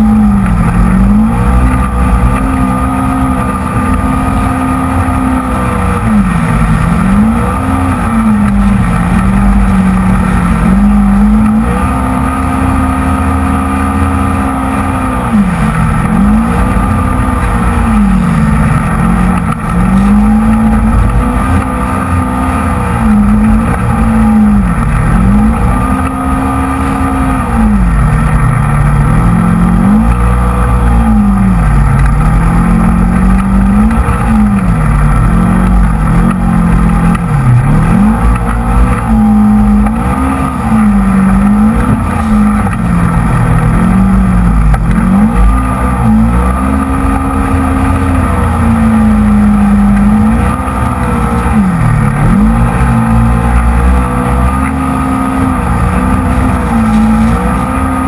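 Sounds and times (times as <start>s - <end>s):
engine revving hard: 0.0s - 58.0s.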